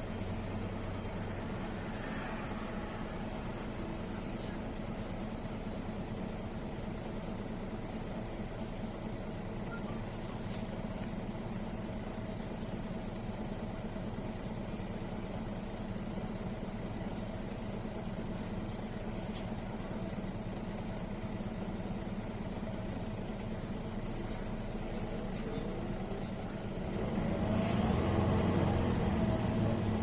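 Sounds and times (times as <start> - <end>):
bus engine hum: 0.0 - 30.0.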